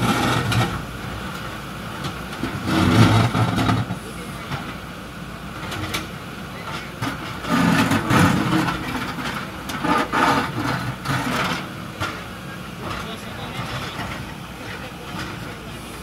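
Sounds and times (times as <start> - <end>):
diesel engines under load: 0.0 - 16.0.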